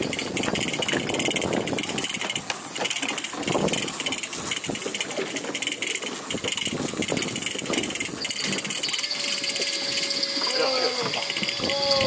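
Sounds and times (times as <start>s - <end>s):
boat engine running: 0.0s - 12.0s
fishing gear knocking and rattling: 0.0s - 12.0s.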